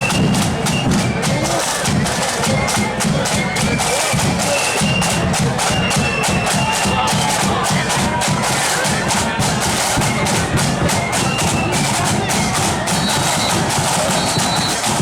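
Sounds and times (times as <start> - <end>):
flute melody: 0.0 - 15.0
snare and bass drum beats: 0.0 - 15.0.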